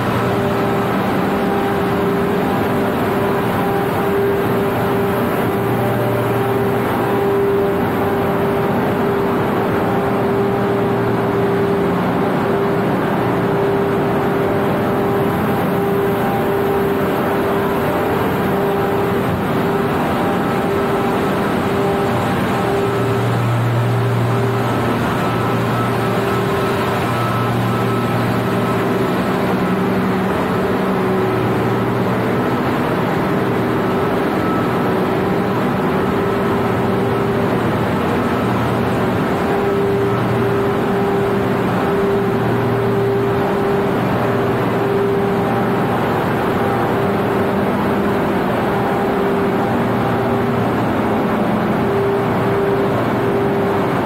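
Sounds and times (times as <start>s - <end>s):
engine-room machinery drone: 0.0s - 54.0s
high steady tone: 0.0s - 54.0s.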